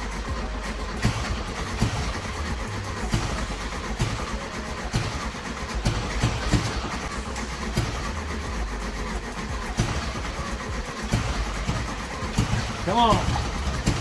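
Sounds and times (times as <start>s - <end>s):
engine running unevenly with pops: 0.0s - 14.0s.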